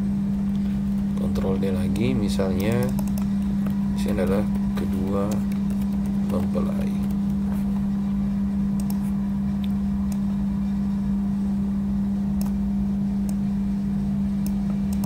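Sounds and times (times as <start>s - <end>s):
steady low hum with rumble: 0.0s - 15.0s.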